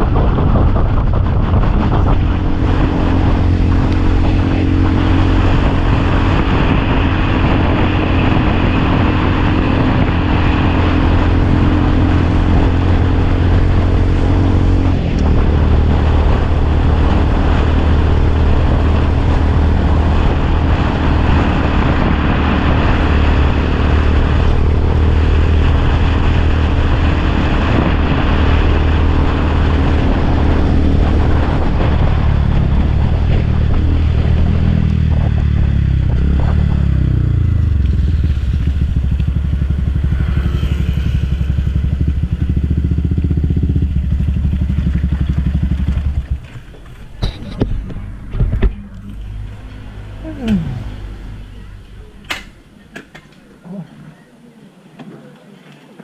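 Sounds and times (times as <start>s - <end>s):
motorcycle engine running: 0.0s - 53.1s
road and wind noise: 0.0s - 56.0s.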